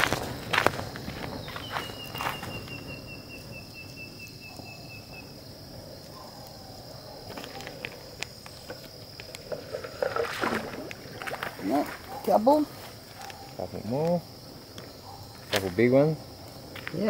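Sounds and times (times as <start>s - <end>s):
insect chorus: 0.0s - 17.0s
pulsing high insect trill: 0.0s - 17.0s.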